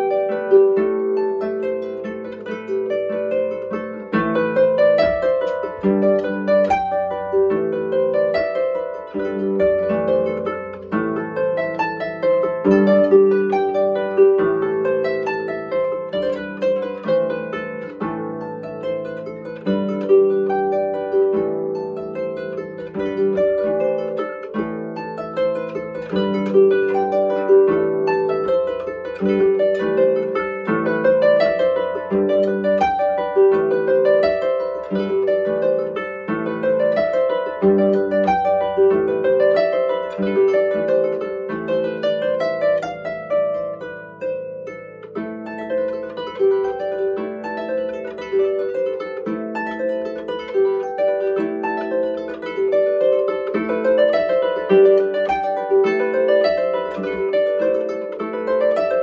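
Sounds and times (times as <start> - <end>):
harp plucked folk tune: 0.0 - 59.0.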